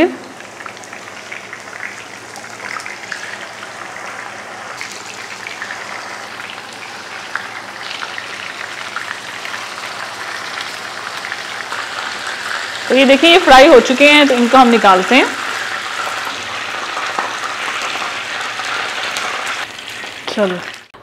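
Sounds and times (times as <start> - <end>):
patties sizzling in oil: 0.0 - 21.0.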